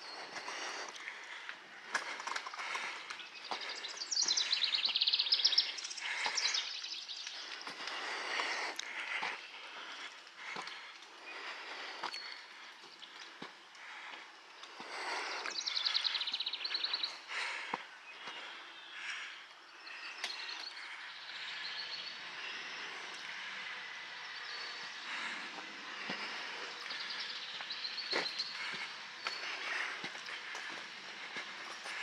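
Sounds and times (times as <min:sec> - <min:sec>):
birds singing: 0:00.0 - 0:32.0.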